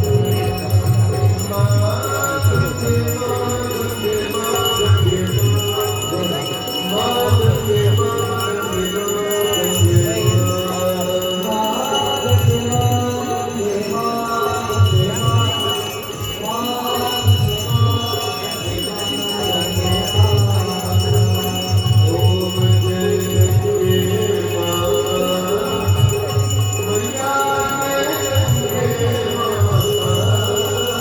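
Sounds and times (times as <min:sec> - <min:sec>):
temple bells ringing: 0:00.0 - 0:31.0
voices singing a hymn: 0:01.3 - 0:31.0.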